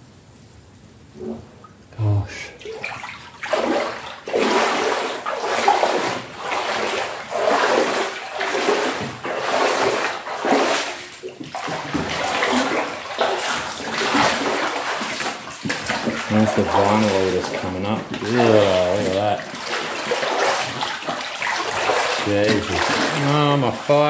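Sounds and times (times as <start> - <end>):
wading through water: 2.0 - 24.0.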